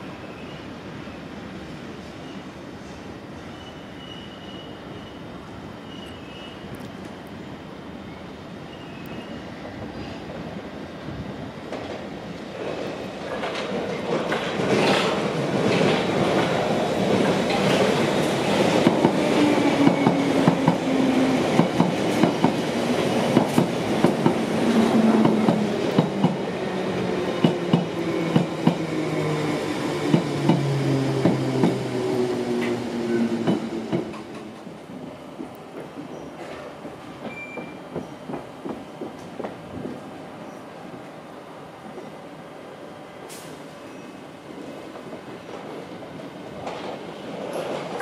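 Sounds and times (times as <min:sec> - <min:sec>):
low train drone: 0:04.8 - 0:48.0.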